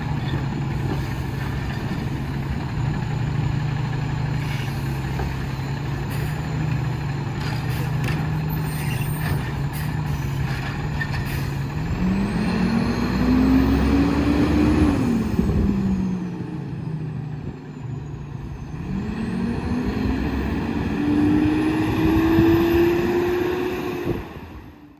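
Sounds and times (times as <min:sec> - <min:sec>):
garbage truck diesel engine: 0:00.0 - 0:24.9.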